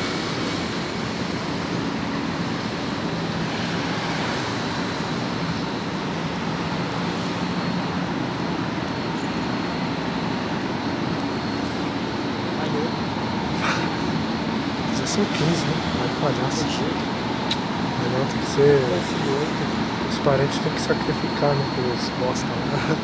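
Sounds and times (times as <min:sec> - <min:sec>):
metro train hum and rush: 0:00.0 - 0:23.0.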